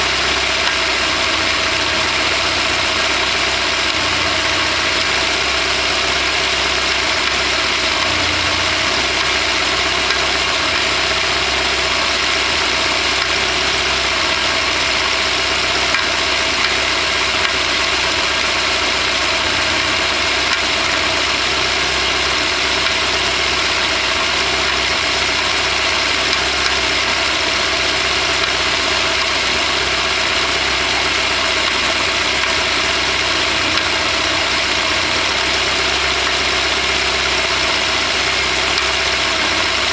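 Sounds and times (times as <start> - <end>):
engine idling with a knock: 0.0 - 39.9.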